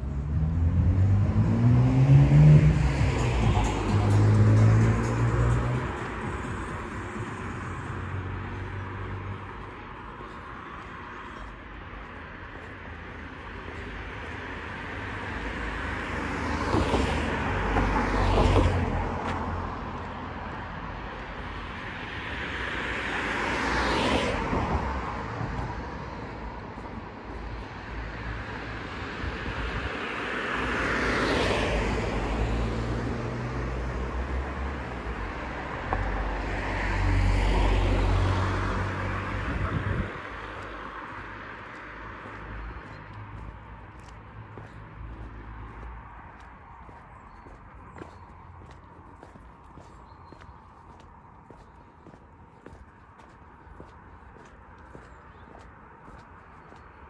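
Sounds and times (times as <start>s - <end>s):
background traffic: 0.0s - 57.0s
cars passing by: 0.0s - 57.0s.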